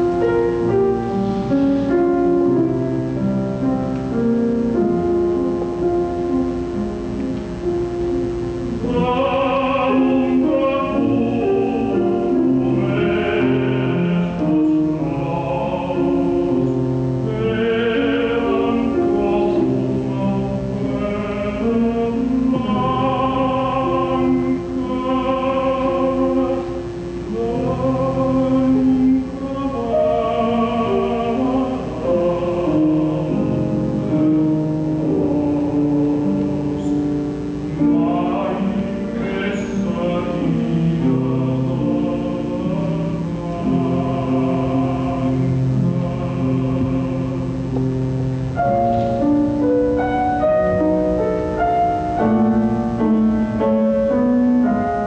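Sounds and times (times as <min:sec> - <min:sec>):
grand piano accompaniment: 0:00.0 - 0:55.0
operatic tenor singing: 0:00.0 - 0:55.0.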